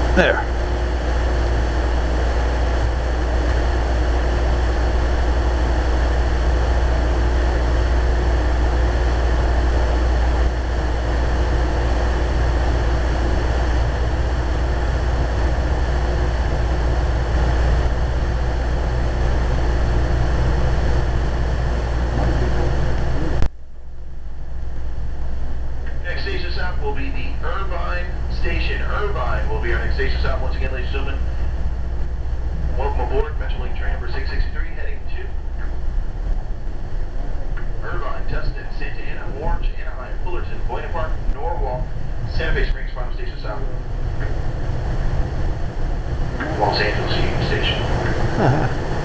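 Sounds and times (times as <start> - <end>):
steady hum: 0.0 - 49.0
train interior rumble: 0.0 - 49.0.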